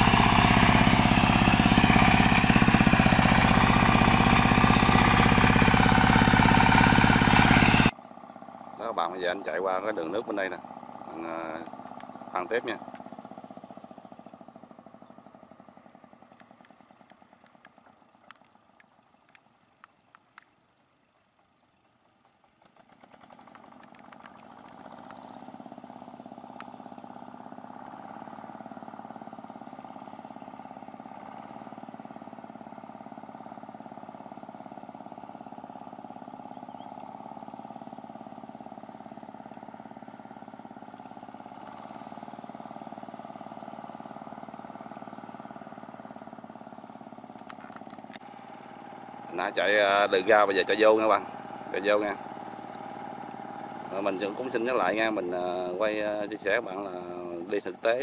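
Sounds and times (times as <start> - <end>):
diesel engine running: 0.0 - 20.4, 22.2 - 58.0.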